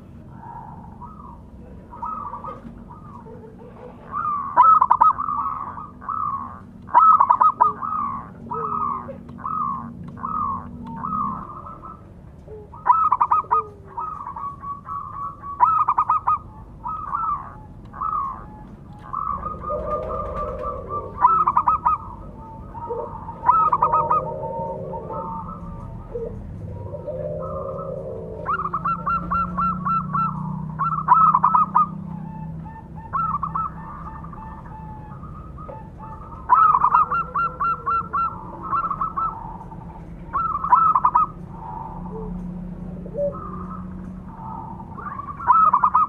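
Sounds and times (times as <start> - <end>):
dove cooing with stuttering trill: 0.0 - 46.0
lower bird call: 0.0 - 46.0.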